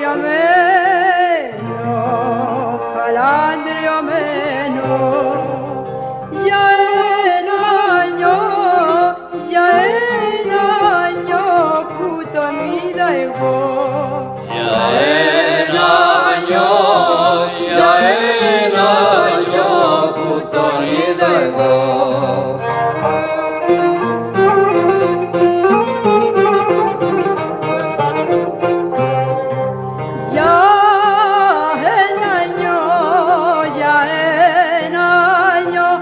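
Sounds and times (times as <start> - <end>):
bowed string folk melody: 0.0 - 36.0.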